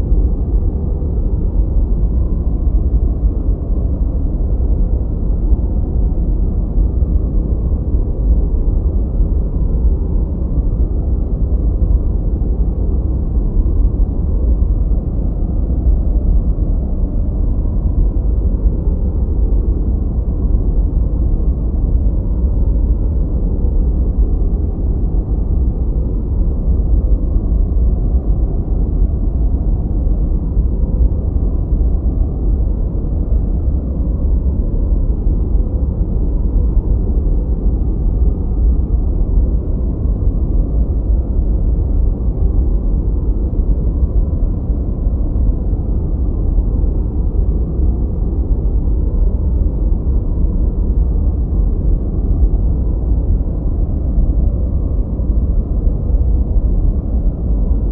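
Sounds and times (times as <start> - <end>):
deep rumbling white noise: 0.0 - 57.9.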